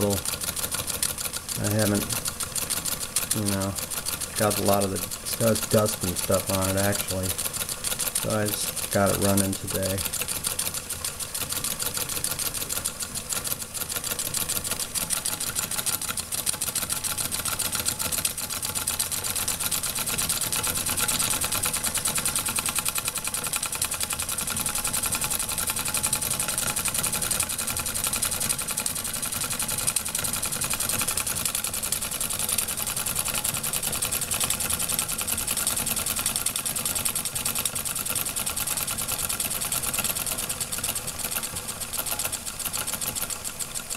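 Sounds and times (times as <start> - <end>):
toy steam engine clattering: 0.0 - 43.9.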